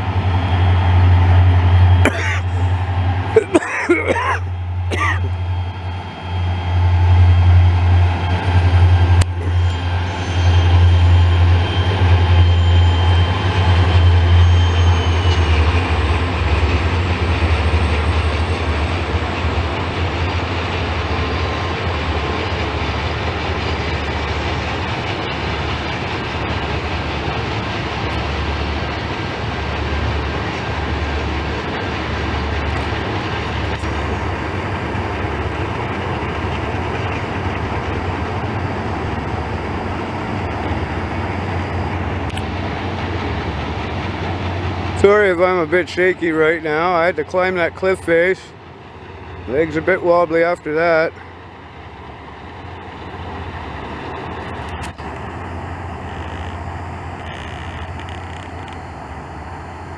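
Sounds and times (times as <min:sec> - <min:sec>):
locomotive engine drone: 0:00.0 - 0:59.9
train cars rumbling by: 0:00.0 - 0:59.9.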